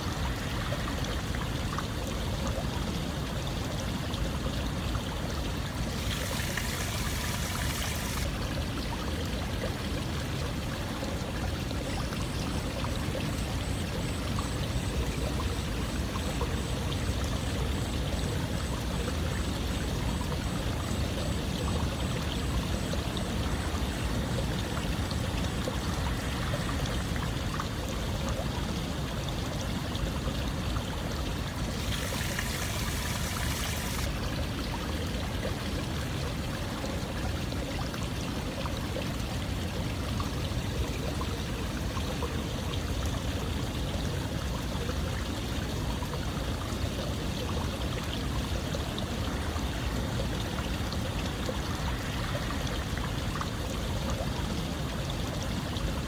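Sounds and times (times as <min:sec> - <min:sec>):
water flowing: 0:00.0 - 0:56.0.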